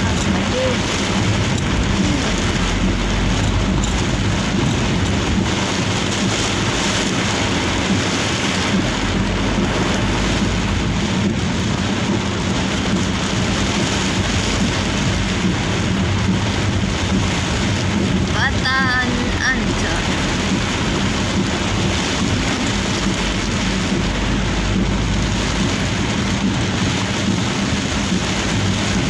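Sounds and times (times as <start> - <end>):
heavy rain on vehicle roof: 0.0 - 29.0
low engine hum: 0.0 - 29.0.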